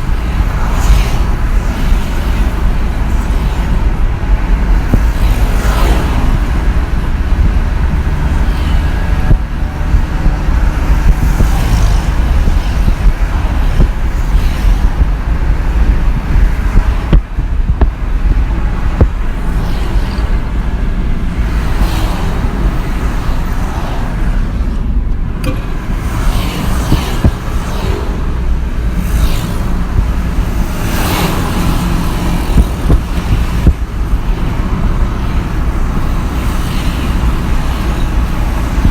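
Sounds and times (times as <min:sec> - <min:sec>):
cars and motorbikes passing: 0:00.0 - 0:38.9.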